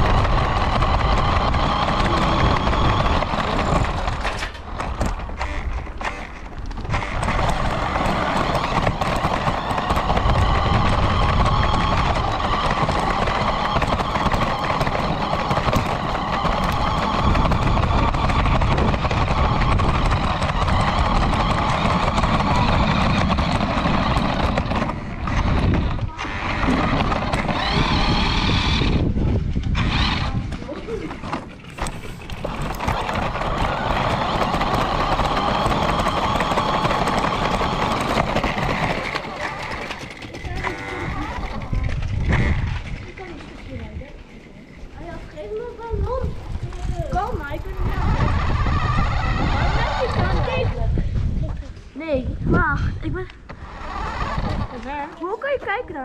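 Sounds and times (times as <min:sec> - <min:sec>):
electric motor whine: 0:00.0 - 0:30.6, 0:31.6 - 0:43.1, 0:46.4 - 0:50.8, 0:53.4 - 0:55.0
radio-controlled car driving: 0:00.0 - 0:51.2, 0:52.8 - 0:55.4.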